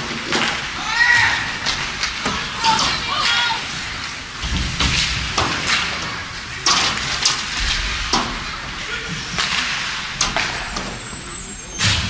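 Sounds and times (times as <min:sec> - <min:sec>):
arena noise: 0:00.0 - 0:12.0
hockey sticks and puck clacking: 0:00.0 - 0:12.0
skate blades scraping ice: 0:00.0 - 0:12.0.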